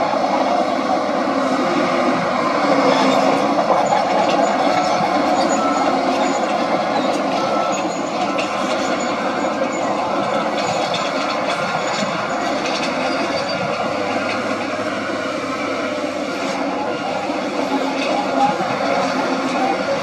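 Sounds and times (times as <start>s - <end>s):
bulldozer diesel engine running: 0.0s - 20.0s
steel tracks clattering: 0.0s - 20.0s.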